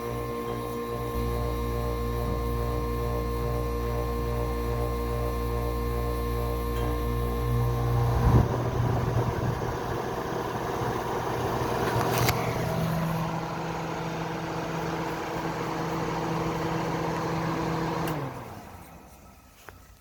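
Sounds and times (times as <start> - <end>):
dehumidifier humming: 0.0 - 19.4.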